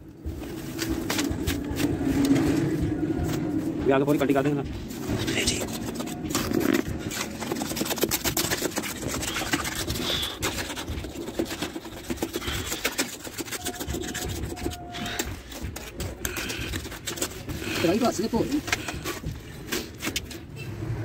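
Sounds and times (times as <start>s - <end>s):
gritty scraping and rubbing: 0.3s - 20.9s.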